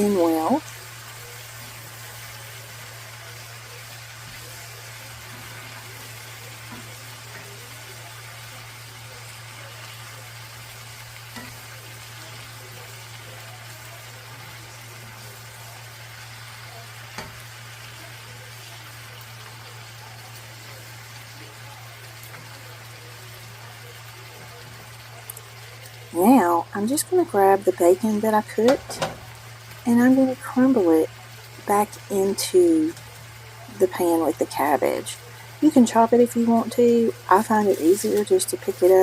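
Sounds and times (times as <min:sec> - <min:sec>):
vegetables sizzling in a pan: 0:00.0 - 0:39.0.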